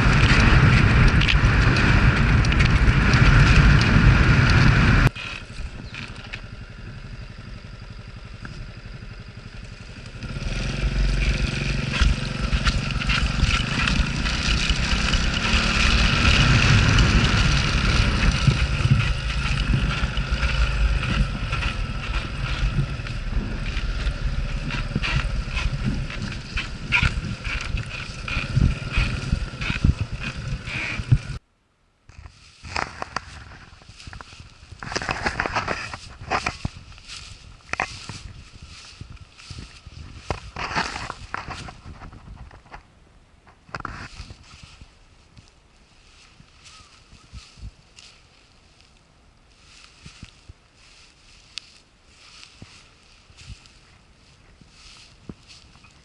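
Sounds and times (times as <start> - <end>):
wind noise on microphone: 0.0 - 31.4, 32.1 - 45.4, 46.0 - 48.4, 49.6 - 56.0
motorcycle engine rumble: 0.0 - 56.0.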